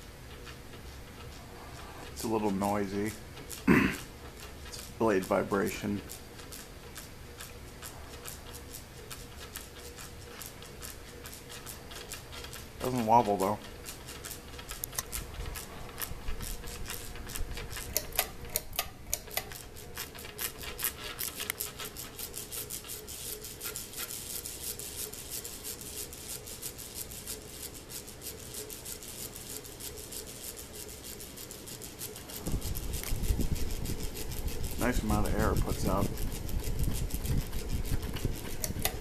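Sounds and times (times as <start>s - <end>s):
ceiling fan clicking rattle: 0.0s - 39.0s
fan motor hum: 0.0s - 39.0s.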